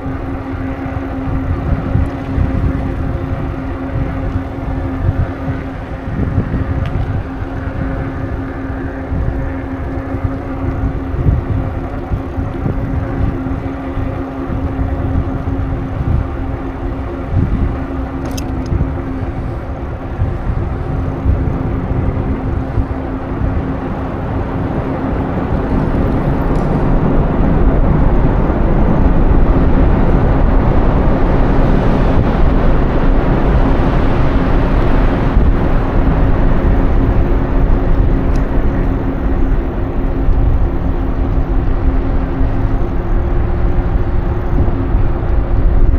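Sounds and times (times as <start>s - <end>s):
steady low hum: 0.0s - 45.9s
wind rumbling on microphone: 0.0s - 45.9s.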